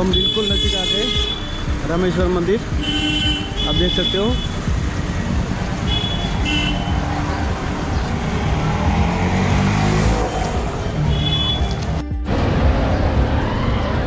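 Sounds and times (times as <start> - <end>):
auto-rickshaw engine: 0.0 - 14.0
vehicle engines passing: 1.2 - 14.0.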